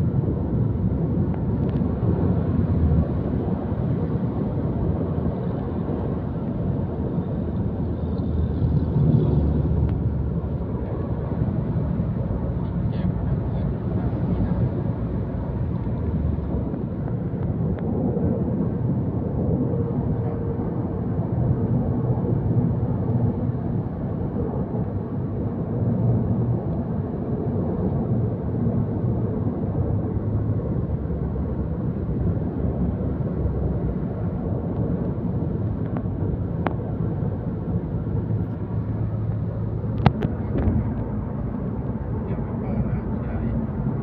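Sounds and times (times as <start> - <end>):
running vehicle rumble: 0.0 - 44.0.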